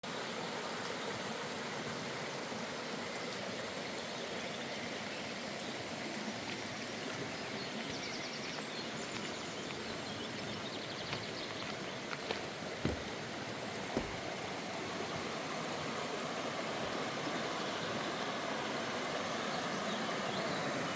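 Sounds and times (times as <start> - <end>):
waterfall and stream rushing: 0.0 - 20.9.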